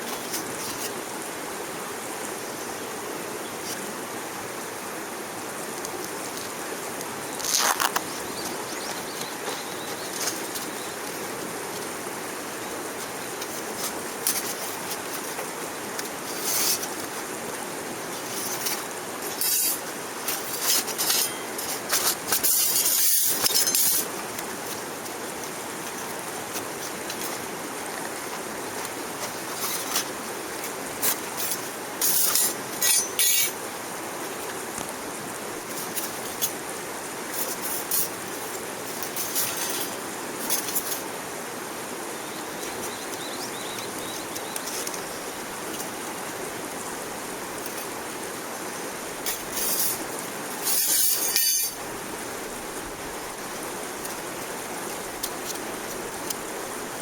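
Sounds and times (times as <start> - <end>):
crackling hiss bursts: 0.0 - 57.0
running water rushing: 0.0 - 57.0.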